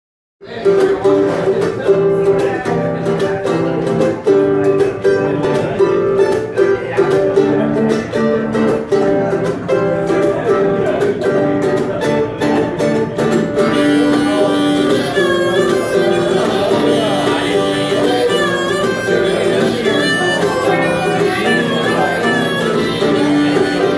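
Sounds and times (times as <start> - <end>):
picked acoustic string instruments: 0.4 - 23.9.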